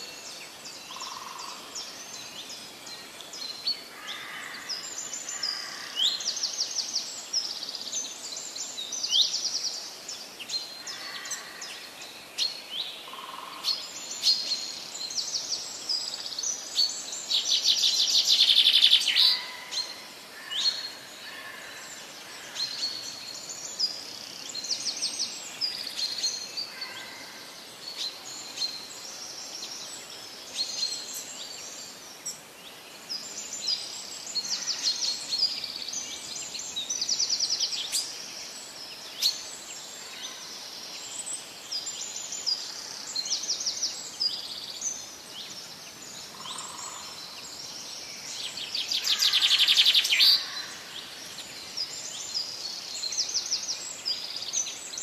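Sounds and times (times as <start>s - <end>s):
birds chirping and trilling: 0.0s - 55.0s
steady hiss: 0.0s - 55.0s.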